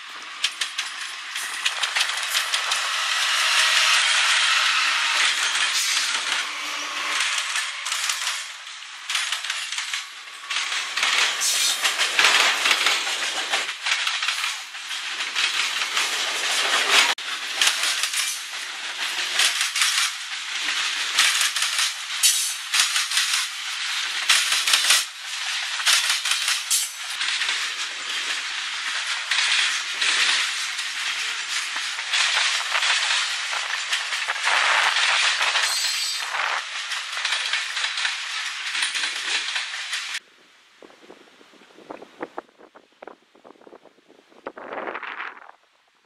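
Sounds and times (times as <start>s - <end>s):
freight cars clattering: 0.0s - 40.2s
freight train passing: 0.0s - 40.2s.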